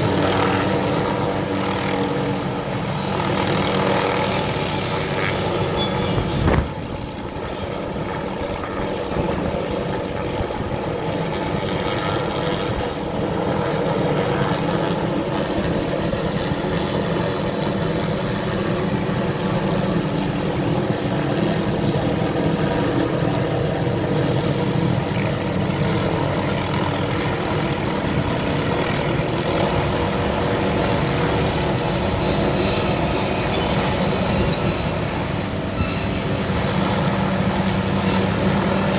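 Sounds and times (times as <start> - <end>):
helicopter hovering: 0.0 - 38.9.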